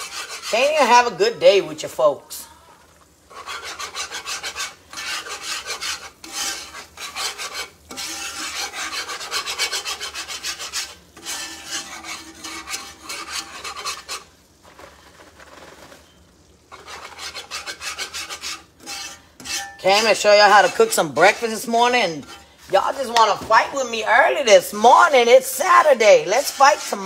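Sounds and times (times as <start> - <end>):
metal whisk scraping a skillet: 0.0 - 2.2, 3.2 - 27.0.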